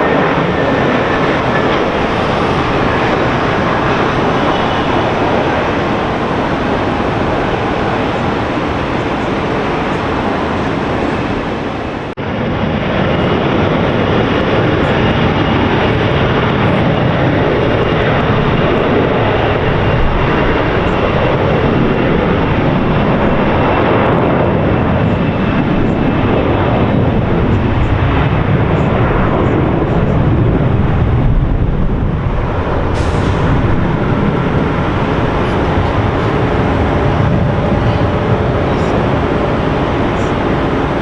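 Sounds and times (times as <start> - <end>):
jet airliner engine noise: 0.0 - 41.0.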